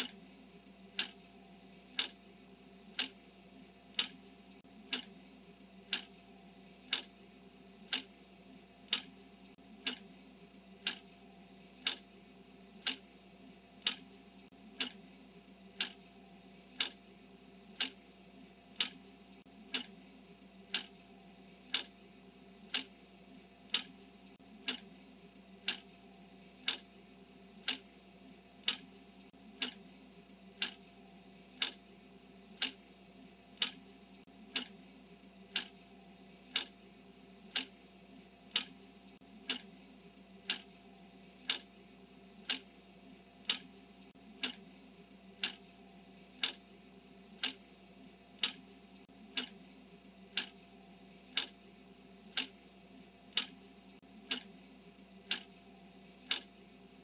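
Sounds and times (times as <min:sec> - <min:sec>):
clock ticking: 0:00.0 - 0:00.3, 0:00.9 - 0:07.2, 0:07.8 - 0:15.1, 0:15.7 - 0:17.1, 0:17.7 - 0:20.0, 0:20.6 - 0:22.0, 0:22.6 - 0:23.0, 0:23.6 - 0:25.0, 0:25.6 - 0:26.9, 0:27.5 - 0:31.9, 0:32.5 - 0:32.9, 0:33.5 - 0:34.8, 0:35.4 - 0:36.8, 0:37.4 - 0:39.8, 0:40.4 - 0:41.8, 0:42.4 - 0:44.7, 0:45.3 - 0:49.7, 0:50.3 - 0:57.0
faint steady hum: 0:00.0 - 0:57.0.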